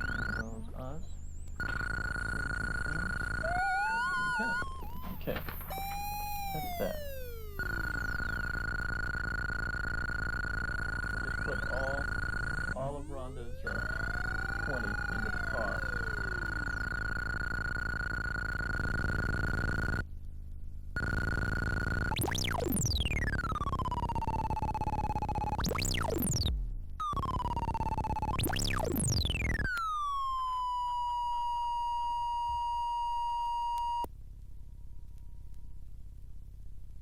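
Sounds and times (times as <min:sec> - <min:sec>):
high pure synthesizer tone: 0:00.0 - 0:20.0, 0:21.0 - 0:34.1
swooping synthesizer tones: 0:00.0 - 0:20.0, 0:21.0 - 0:34.1.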